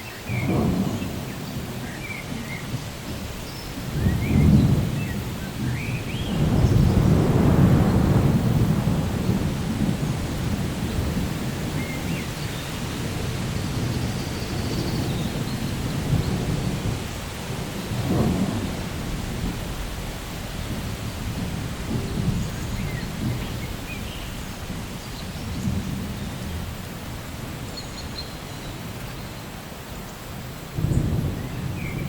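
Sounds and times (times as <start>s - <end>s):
steady rain: 0.0s - 32.0s
rolling thunder: 0.3s - 29.2s, 30.5s - 32.0s.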